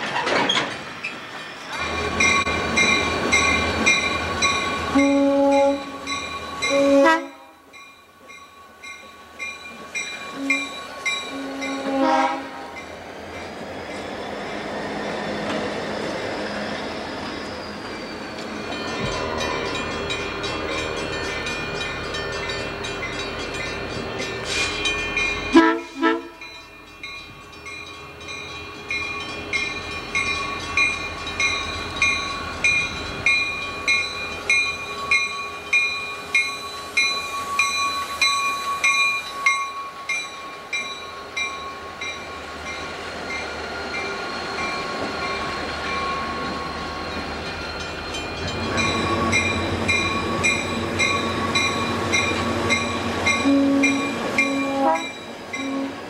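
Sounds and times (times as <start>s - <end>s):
diesel freight train passing: 0.0s - 56.0s
crossing bell ringing: 0.7s - 14.2s, 14.9s - 56.0s.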